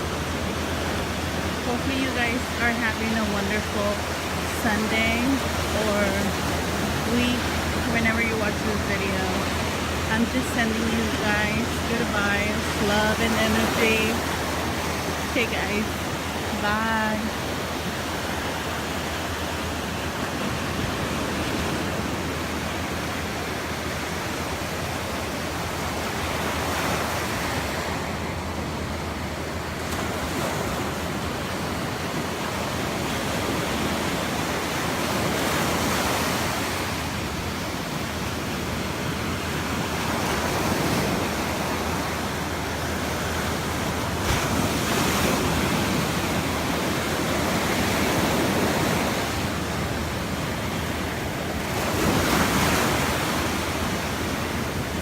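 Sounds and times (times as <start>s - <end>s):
ocean surf washing onto beach: 0.0s - 55.0s.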